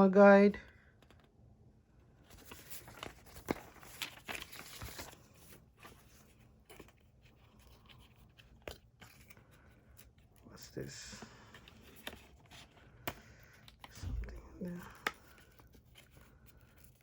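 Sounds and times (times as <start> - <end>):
paper and cardboard rustling: 2.2 - 10.4, 11.2 - 17.0.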